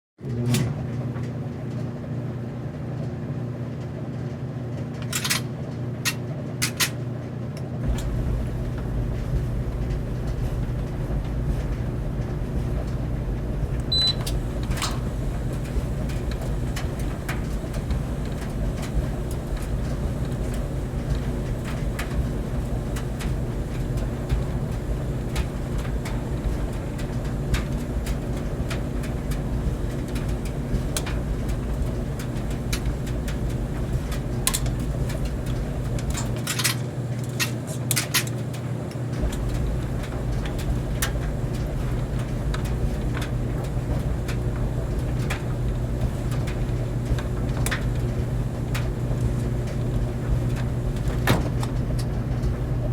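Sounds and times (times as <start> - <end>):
clothes dryer rumble and hum: 0.2 - 52.9.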